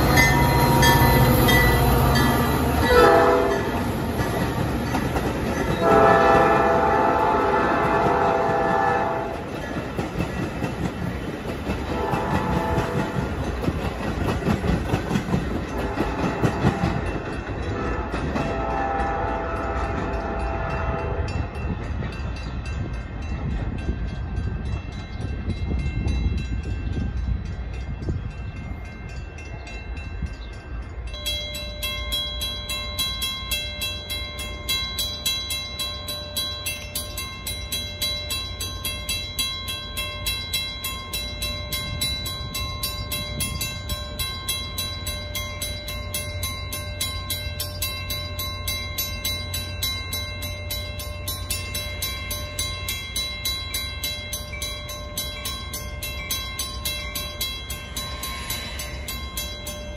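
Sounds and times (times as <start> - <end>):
commuter train rumbling: 0.0 - 59.9
crossing warning bell ringing: 0.0 - 59.9.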